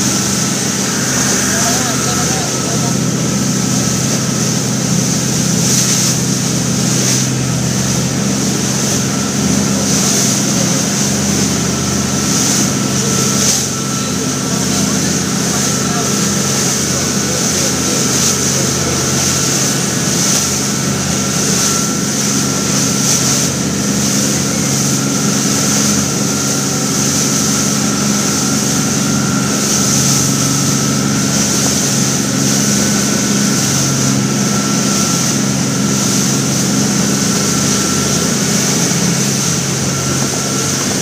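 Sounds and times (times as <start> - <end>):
motorboat engine droning: 0.0 - 41.0
water rushing along hull: 0.0 - 41.0.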